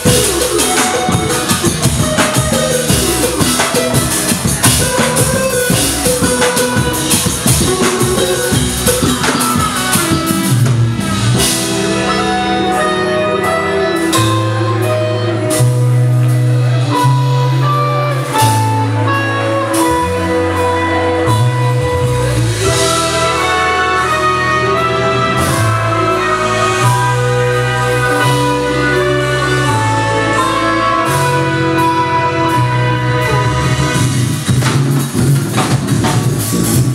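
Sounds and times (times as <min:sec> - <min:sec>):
busy drumming: 0:00.0 - 0:36.9
funk band playing: 0:00.0 - 0:36.9
long low bass notes: 0:00.0 - 0:36.9.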